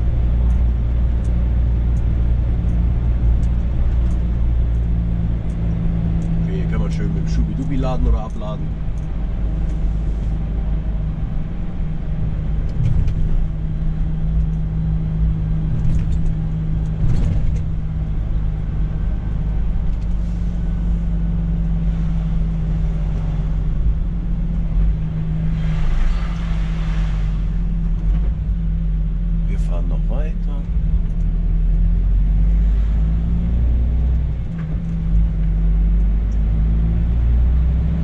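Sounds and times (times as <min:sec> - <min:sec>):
diesel truck engine drone: 0:00.0 - 0:38.0
road noise: 0:00.0 - 0:38.0.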